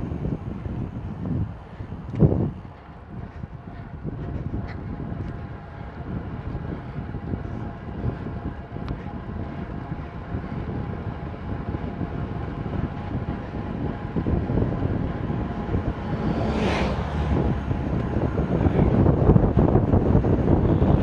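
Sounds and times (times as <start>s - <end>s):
faint steady hum: 0.0s - 21.0s
wind buffeting microphone: 0.0s - 21.0s.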